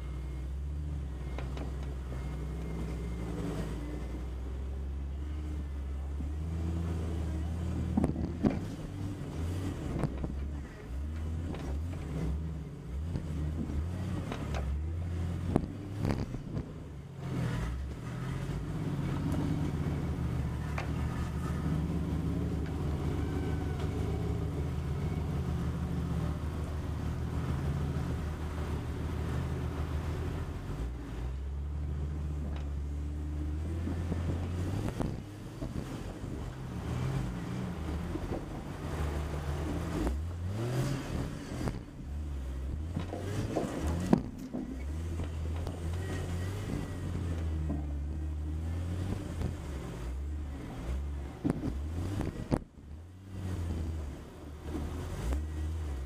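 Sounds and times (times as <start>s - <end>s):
car engine at crawling speed: 0.0s - 56.0s.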